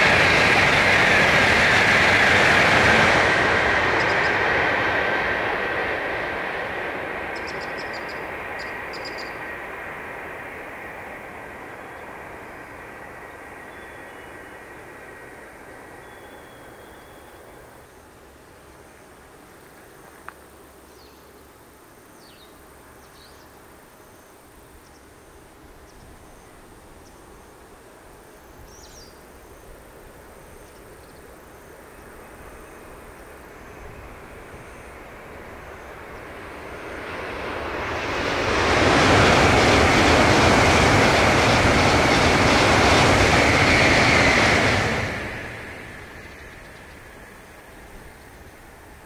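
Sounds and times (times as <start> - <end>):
high-speed train passing: 0.0 - 49.0.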